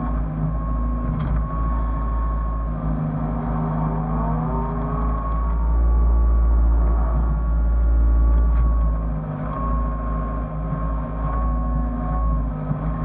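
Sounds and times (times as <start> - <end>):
diesel engine rumbling: 0.0 - 13.0
high whine: 0.0 - 13.0.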